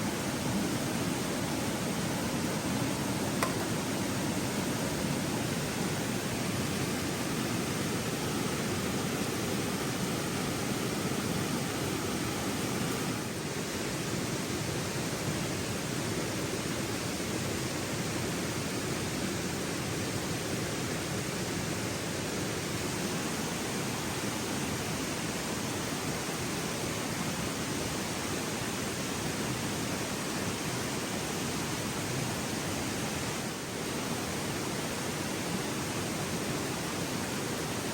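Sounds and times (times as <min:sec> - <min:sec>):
river flowing: 0:00.0 - 0:37.9.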